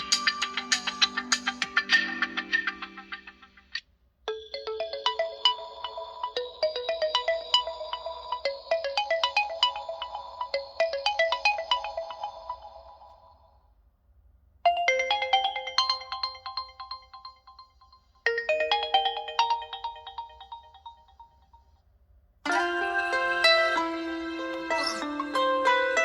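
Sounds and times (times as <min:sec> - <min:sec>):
bell-like ringtone melody: 0:00.0 - 0:03.6, 0:04.3 - 0:13.6, 0:14.7 - 0:21.8, 0:22.5 - 0:26.0.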